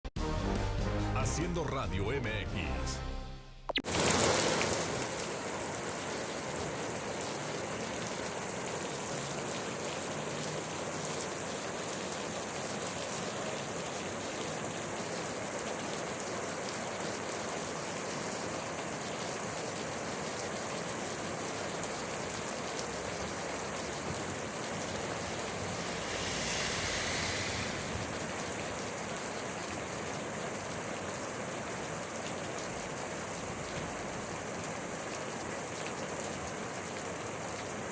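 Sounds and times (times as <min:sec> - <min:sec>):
steady rain falling: 0:03.9 - 0:37.9.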